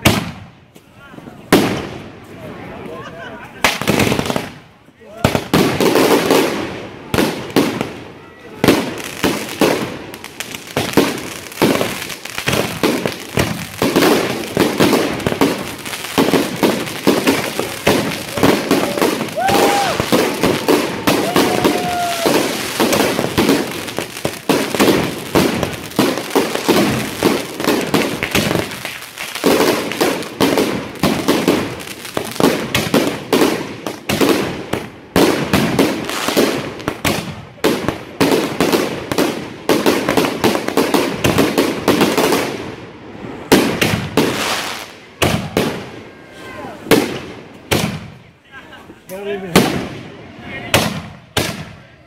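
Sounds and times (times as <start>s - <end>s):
fireworks bursting and crackling: 0.0s - 52.0s.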